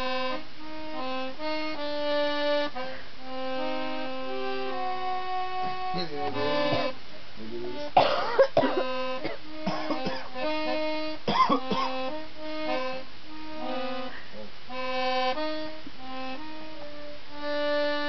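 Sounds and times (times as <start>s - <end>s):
instrumental music with held notes: 0.0s - 18.0s.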